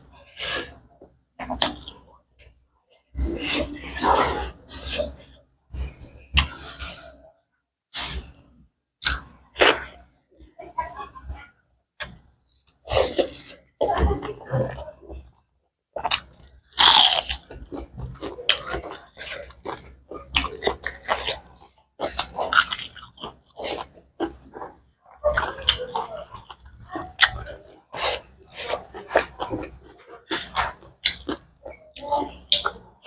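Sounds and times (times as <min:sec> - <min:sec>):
chewing and crunching food: 0:00.0 - 0:07.3, 0:09.0 - 0:10.1, 0:12.0 - 0:33.0.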